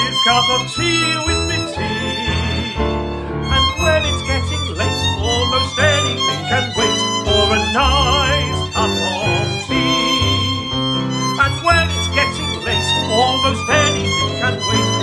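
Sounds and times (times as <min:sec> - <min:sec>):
violin with vibrato: 0:00.0 - 0:15.0.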